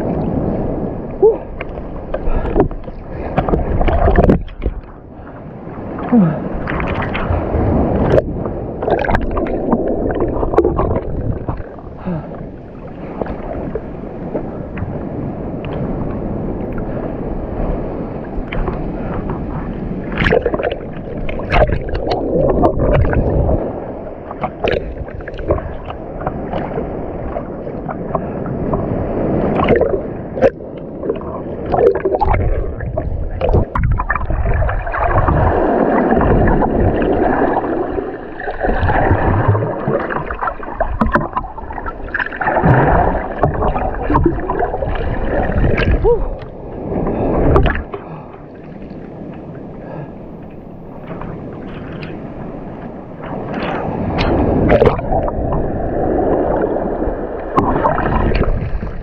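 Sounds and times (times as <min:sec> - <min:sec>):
muffled water sloshing and gurgling: 0:00.0 - 0:59.0
water splashes: 0:00.0 - 0:59.0.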